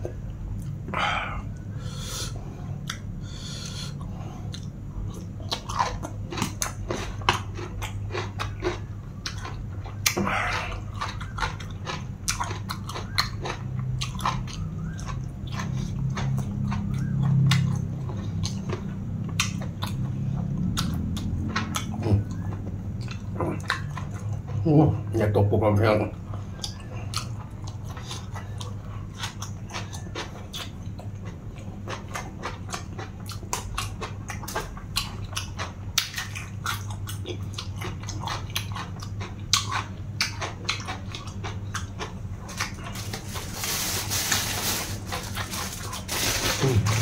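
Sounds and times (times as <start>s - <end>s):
low steady hum: 0.0s - 47.0s
person chewing and crunching food: 0.0s - 47.0s.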